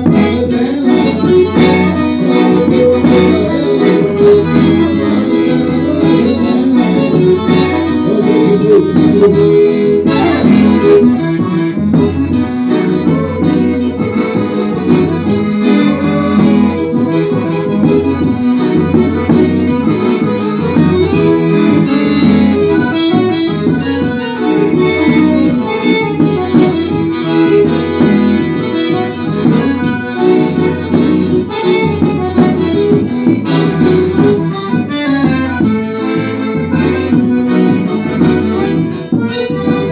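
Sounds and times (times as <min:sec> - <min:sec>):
accordion music: 0:00.0 - 0:39.9
percussion beat: 0:00.0 - 0:39.9.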